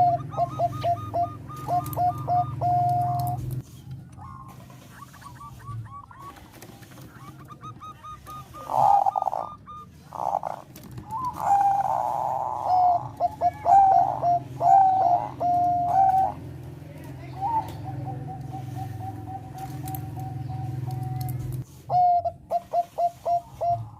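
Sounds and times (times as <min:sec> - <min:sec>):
dove cooing: 0:00.0 - 0:23.9.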